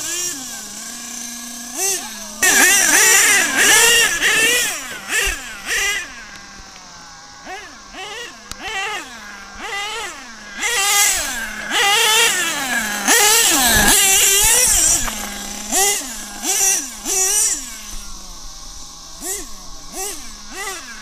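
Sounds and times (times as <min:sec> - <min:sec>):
nitro engine revving: 0:00.0 - 0:21.0.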